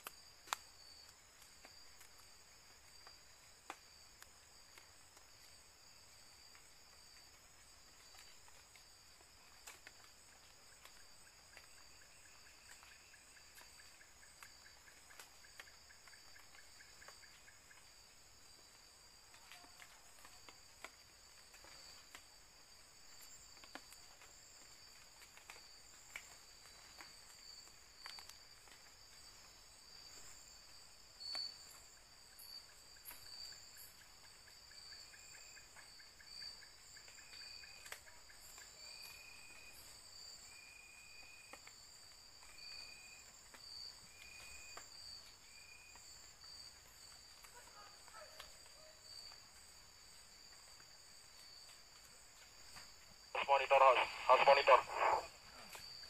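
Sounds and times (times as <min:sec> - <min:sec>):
night insects trilling: 0:00.0 - 0:56.0.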